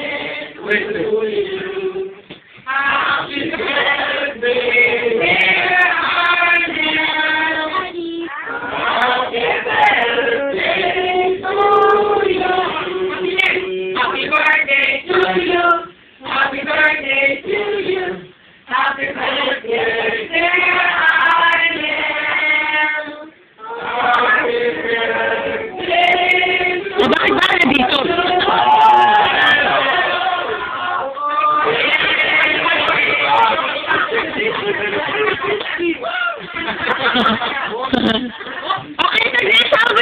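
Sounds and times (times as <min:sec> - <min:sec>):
family singing a birthday song: 0:00.0 - 0:40.0.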